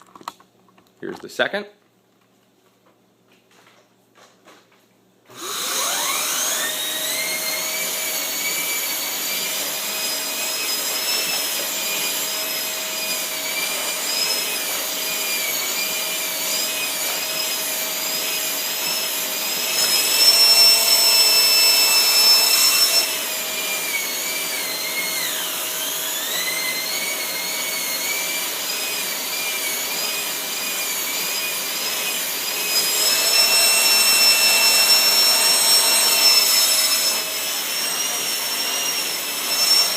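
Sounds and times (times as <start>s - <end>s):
vacuum motor whine: 5.3s - 39.9s.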